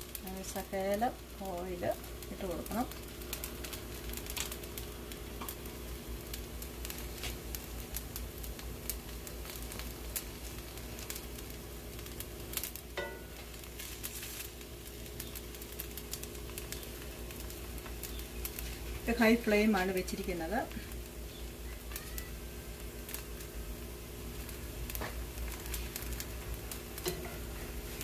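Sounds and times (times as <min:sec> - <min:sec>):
dough sizzling in oil: 0:00.0 - 0:28.0
small pops and crackles: 0:00.0 - 0:28.0.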